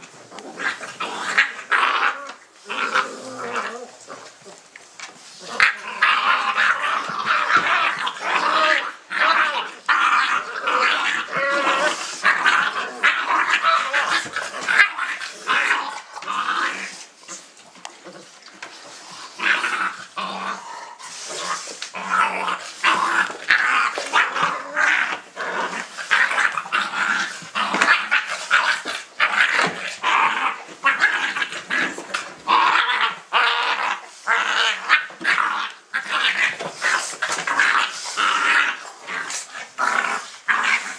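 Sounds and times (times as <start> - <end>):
puppies yipping and growling: 0.0 - 40.9.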